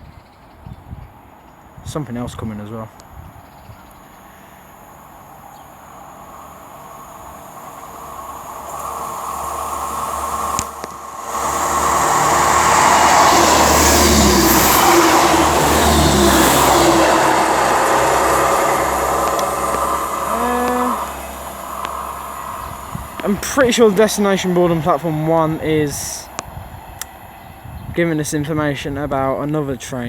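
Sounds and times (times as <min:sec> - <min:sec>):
wheels rushing on rail: 0:00.2 - 0:30.0
train passing: 0:01.1 - 0:30.0.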